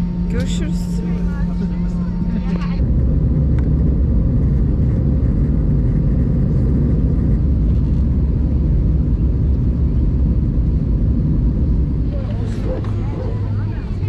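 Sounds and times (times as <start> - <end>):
jet engine and airflow rumble: 0.0 - 14.0.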